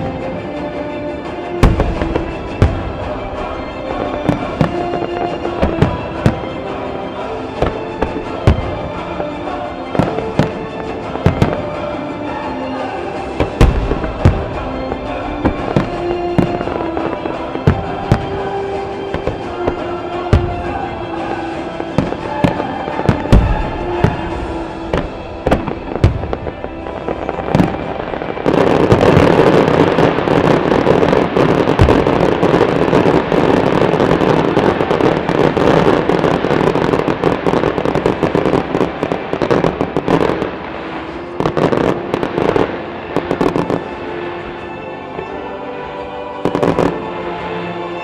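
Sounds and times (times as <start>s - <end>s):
fireworks bursting and crackling: 0.0s - 45.5s, 46.4s - 48.0s
music: 0.0s - 48.0s.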